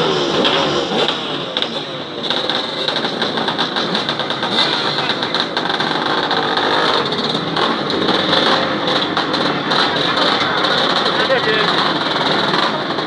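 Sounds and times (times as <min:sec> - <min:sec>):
motorcycle engines idling and revving: 0:00.0 - 0:13.0.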